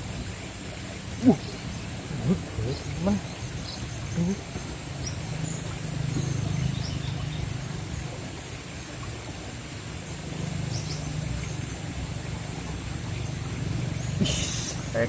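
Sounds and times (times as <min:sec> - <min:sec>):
high-pitched insect chorus: 0:00.0 - 0:15.0
low steady rumble: 0:00.0 - 0:15.0.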